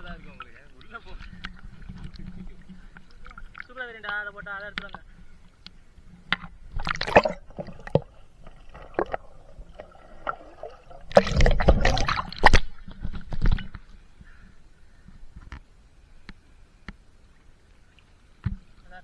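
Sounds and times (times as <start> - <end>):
rush of water: 0.0 - 16.0
water gurgling and sloshing: 0.0 - 19.0.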